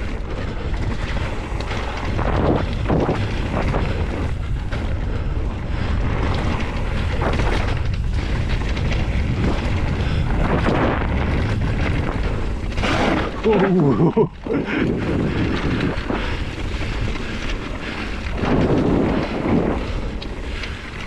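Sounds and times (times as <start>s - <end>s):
bike clattering over trail: 0.0s - 21.0s
wind rumble on microphone: 0.0s - 21.0s.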